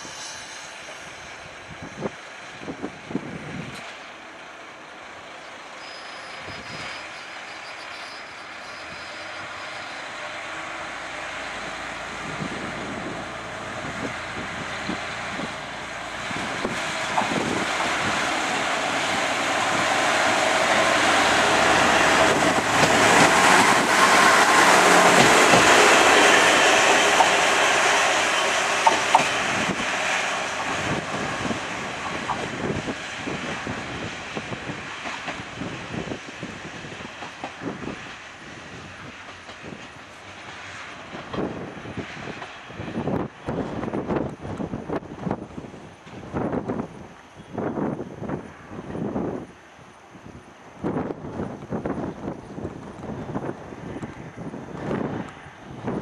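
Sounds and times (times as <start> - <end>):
diesel railcar engine: 0.0 - 56.0.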